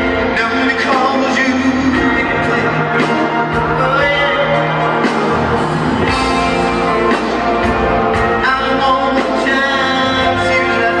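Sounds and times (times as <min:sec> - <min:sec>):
live rock band with electric guitar: 0:00.0 - 0:11.0.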